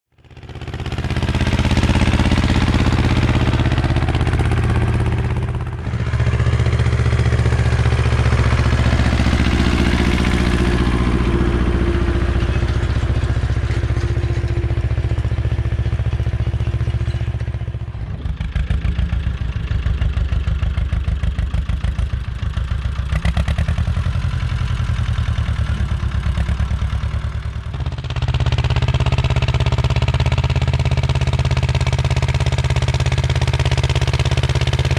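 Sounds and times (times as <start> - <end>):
tractor diesel engine chugging: 0.2 - 34.9.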